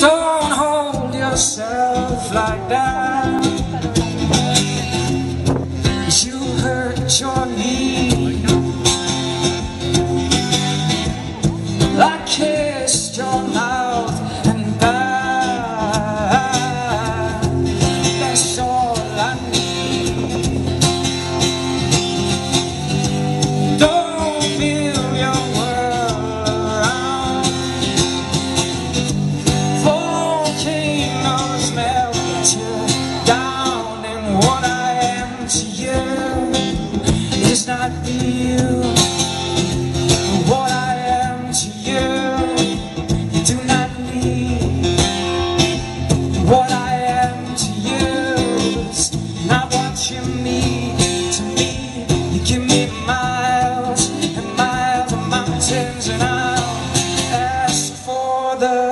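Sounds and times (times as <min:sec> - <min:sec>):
acoustic guitar strumming: 0:00.0 - 0:58.9
man singing: 0:00.0 - 0:58.9.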